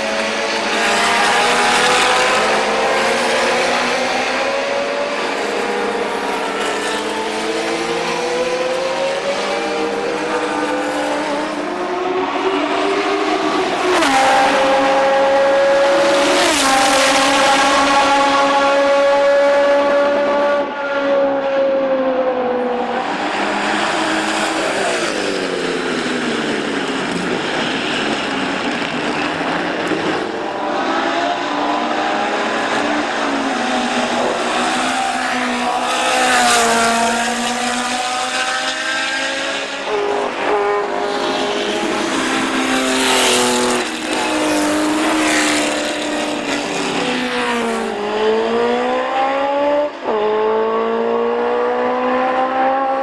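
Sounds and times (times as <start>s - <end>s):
racing cars passing: 0.0s - 53.0s.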